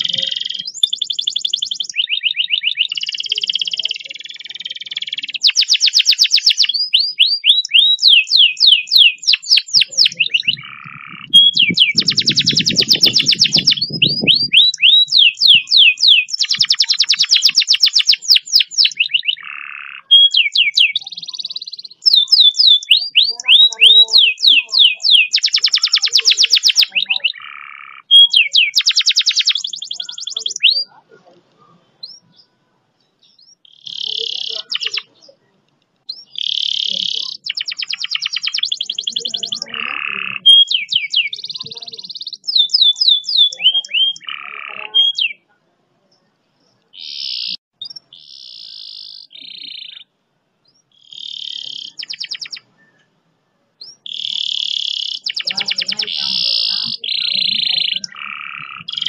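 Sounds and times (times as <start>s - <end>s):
canary singing rapid trills: 0.0s - 31.0s, 33.2s - 35.4s, 36.1s - 45.5s, 47.0s - 52.8s, 53.8s - 59.0s.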